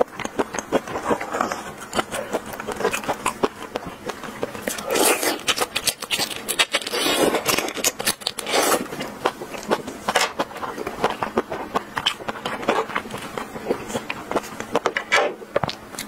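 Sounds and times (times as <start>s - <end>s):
prawn shell crackling: 0.0s - 16.0s
wet biting and chewing: 0.0s - 16.0s.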